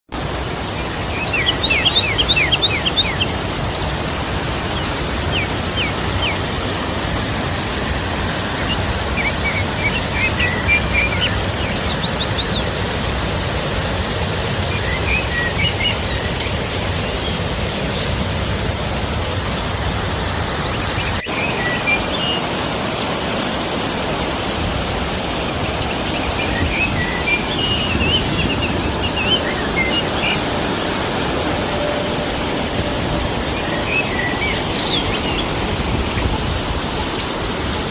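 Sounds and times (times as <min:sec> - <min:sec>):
river water rushing: 0:00.2 - 0:37.9
birds chirping: 0:00.7 - 0:13.2, 0:13.8 - 0:23.4, 0:25.5 - 0:37.4.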